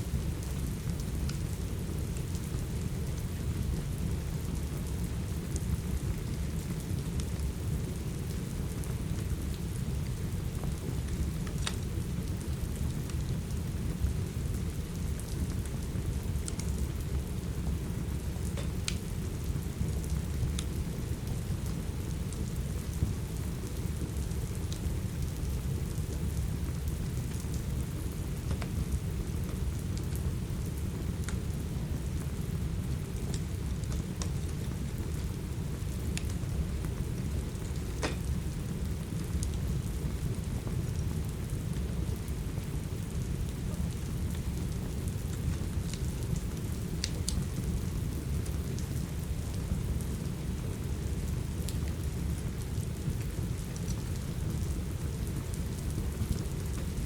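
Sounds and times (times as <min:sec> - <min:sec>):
steady heavy rain: 0:00.0 - 0:57.0
wood fire crackling and popping: 0:00.1 - 0:03.7, 0:04.3 - 0:57.0.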